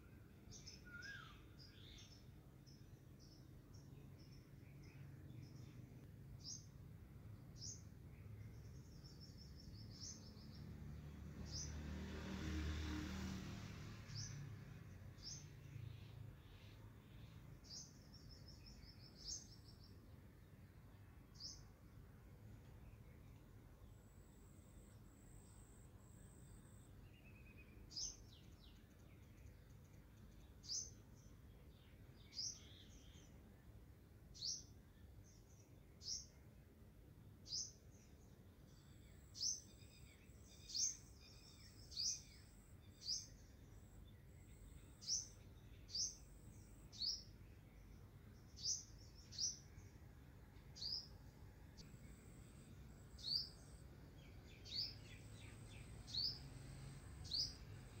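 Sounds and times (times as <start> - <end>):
small bird chirping: 0.0 - 11.8, 14.0 - 20.2, 21.3 - 21.8, 22.6 - 33.4, 34.3 - 36.4, 37.4 - 58.0.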